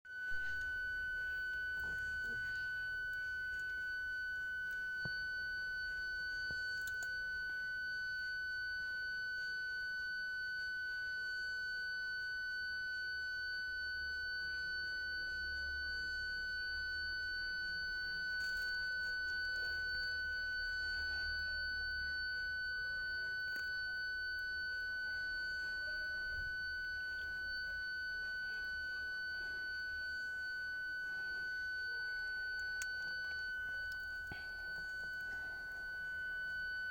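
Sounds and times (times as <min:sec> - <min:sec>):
parking sensor continuous tone: 0:00.1 - 0:36.9.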